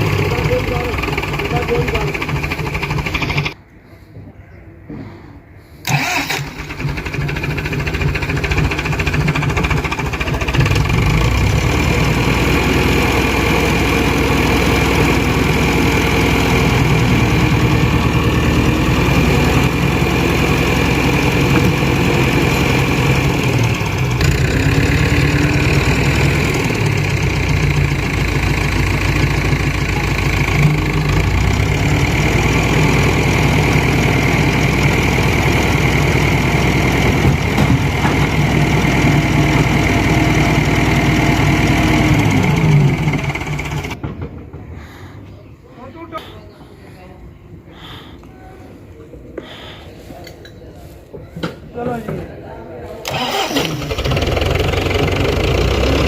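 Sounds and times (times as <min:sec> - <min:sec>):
tractor diesel engine running: 0:00.0 - 0:03.6, 0:05.8 - 0:44.2, 0:53.0 - 0:56.0.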